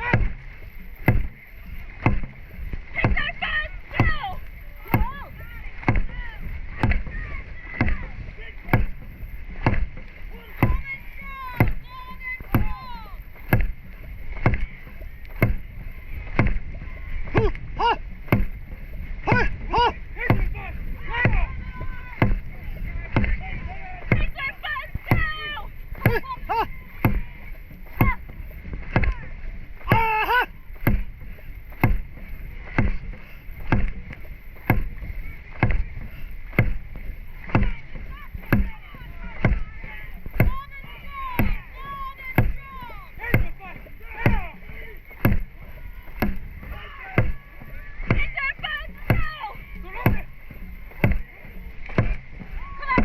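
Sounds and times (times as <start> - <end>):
drum beating a steady rhythm: 0.0 - 53.0.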